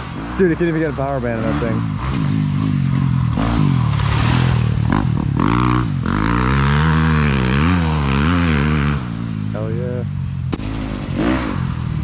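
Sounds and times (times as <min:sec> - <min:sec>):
small motorbike engine revving: 0:00.0 - 0:09.7, 0:10.6 - 0:12.0.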